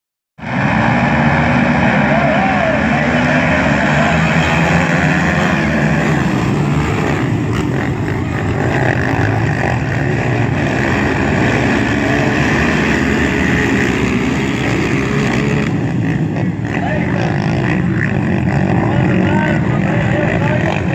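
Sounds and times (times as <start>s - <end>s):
racing atv engines: 0.4s - 20.9s.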